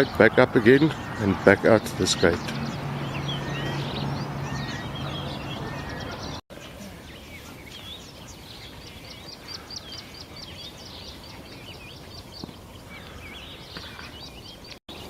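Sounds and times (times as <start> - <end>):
small birds singing: 0.0 - 15.0.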